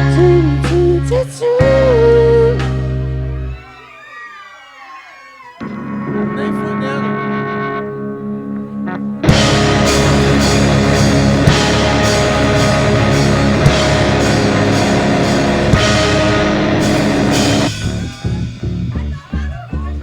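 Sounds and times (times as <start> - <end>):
heavy rock band playing: 0.0 - 3.7, 5.6 - 20.0.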